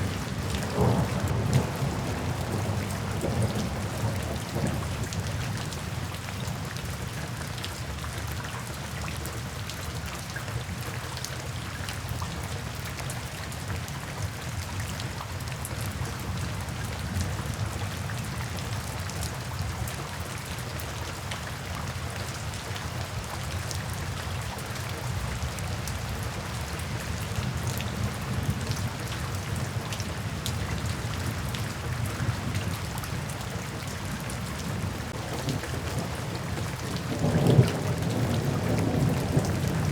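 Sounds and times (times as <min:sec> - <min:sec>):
heavy rain spattering: 0:00.0 - 0:39.9.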